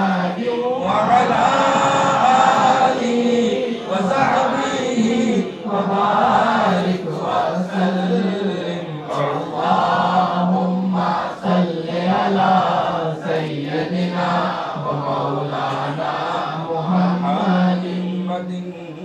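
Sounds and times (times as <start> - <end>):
men chanting through microphone: 0.0 - 19.0.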